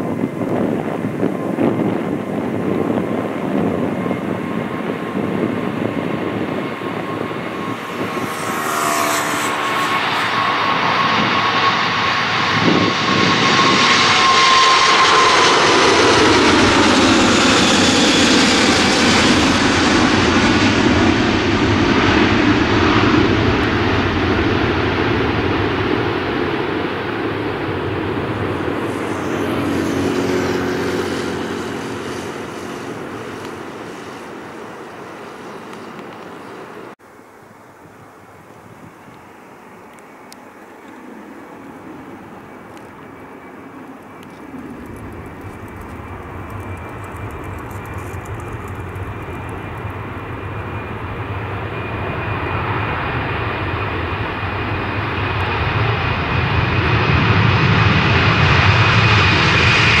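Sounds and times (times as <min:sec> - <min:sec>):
jet airliner taking off: 0:00.0 - 0:37.0, 0:39.1 - 1:00.0
whining jet engine tone: 0:00.0 - 0:37.0, 0:39.3 - 1:00.0.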